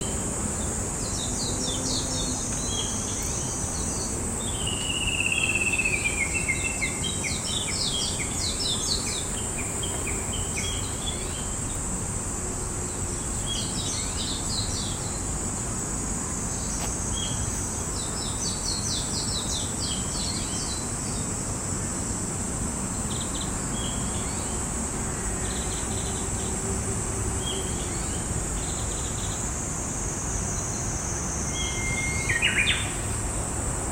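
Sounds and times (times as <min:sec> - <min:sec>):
songbirds chirping: 0:00.0 - 0:33.3.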